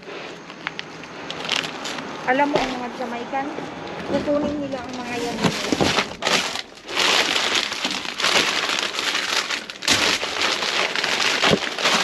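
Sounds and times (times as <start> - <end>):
plastic and cardboard rustling: 0.0 - 2.9, 3.9 - 12.0.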